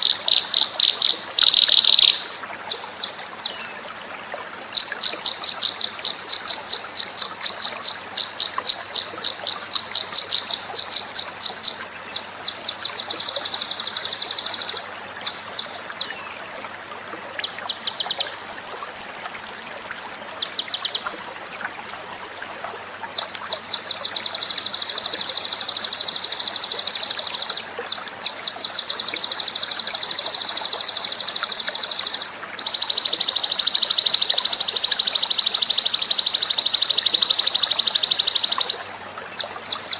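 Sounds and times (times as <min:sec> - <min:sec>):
songbird trills and chirps: 0:00.0 - 0:39.9.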